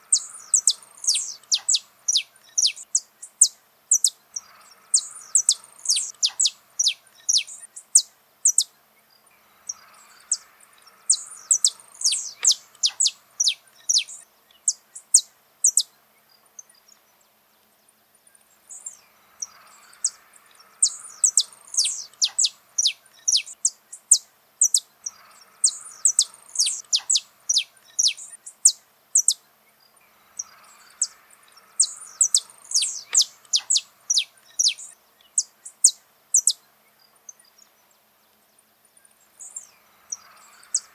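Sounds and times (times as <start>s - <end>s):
finch singing rapid chirps: 0.0s - 9.0s, 9.6s - 15.9s, 18.7s - 37.8s, 39.2s - 40.9s.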